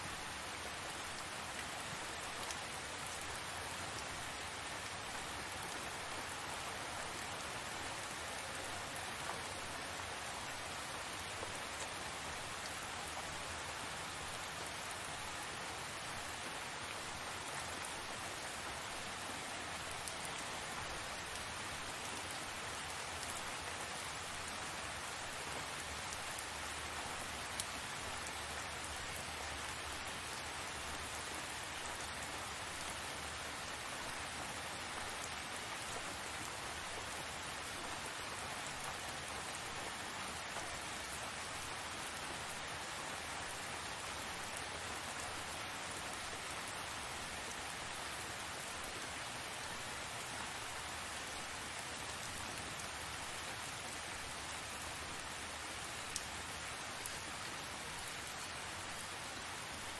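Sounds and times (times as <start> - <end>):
rain drops pattering: 0.0 - 59.9.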